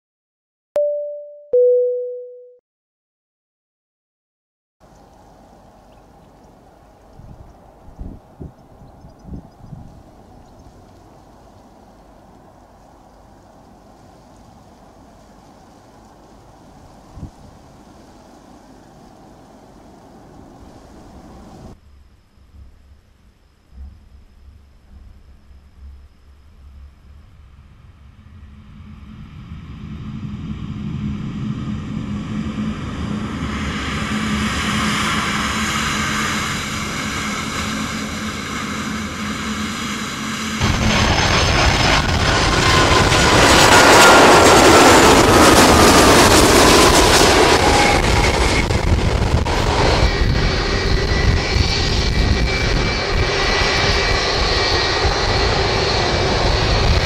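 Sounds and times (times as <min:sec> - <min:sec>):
jet engines on runway: 0:04.9 - 0:21.8, 0:27.1 - 0:57.0
airliner passing low: 0:05.2 - 0:21.8, 0:27.3 - 0:57.0.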